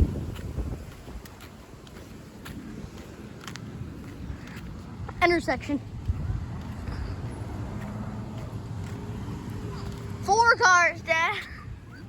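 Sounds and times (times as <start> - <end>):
rumble of passing traffic: 0.0 - 12.0.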